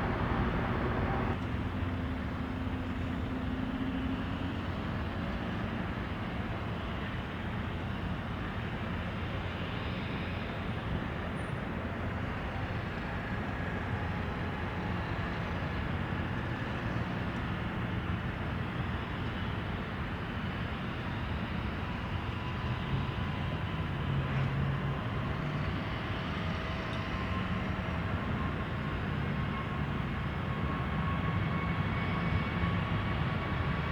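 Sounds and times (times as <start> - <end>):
jet airliner engines rumbling: 0.0 - 33.9.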